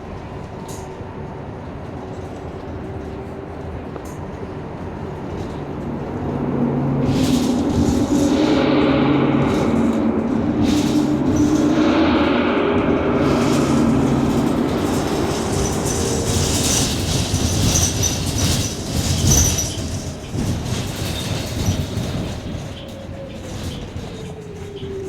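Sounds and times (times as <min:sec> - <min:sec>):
rattles clicks and clunks: 0:00.2 - 0:25.0
rumbling road noise: 0:01.9 - 0:25.0.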